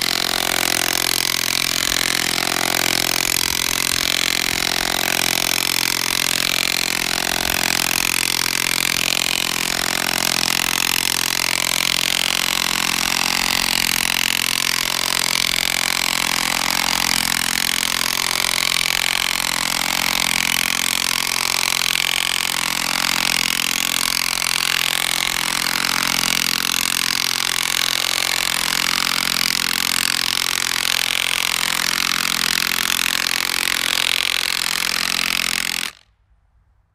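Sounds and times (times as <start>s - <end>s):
impact wrench hammering: 0.0s - 36.0s.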